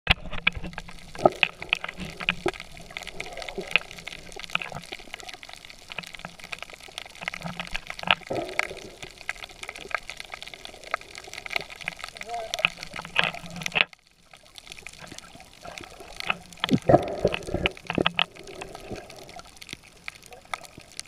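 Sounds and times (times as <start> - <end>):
sharp clicks underwater: 0.1 - 21.0
water sloshing and bubbling: 0.1 - 21.0
bubble gurgles: 0.2 - 5.4, 7.7 - 13.8, 14.8 - 21.0.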